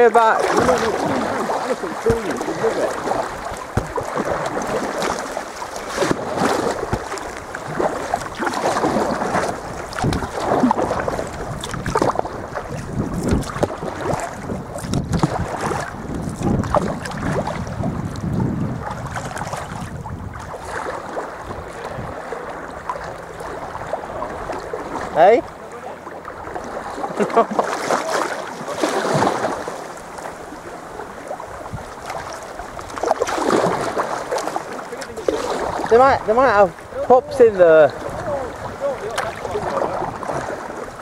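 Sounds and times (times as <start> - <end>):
wind buffeting microphone: 0.0 - 25.6, 30.4 - 34.5, 35.1 - 41.0
paddle splashes: 0.0 - 41.0
water lapping around kayak: 0.0 - 41.0.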